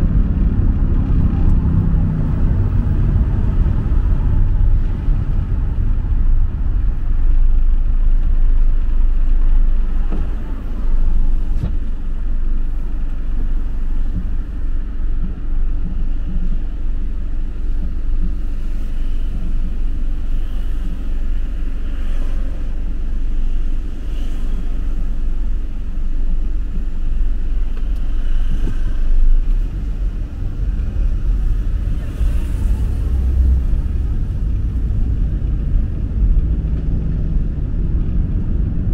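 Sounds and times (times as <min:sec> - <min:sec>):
low rumble of road traffic: 0:00.0 - 0:38.9.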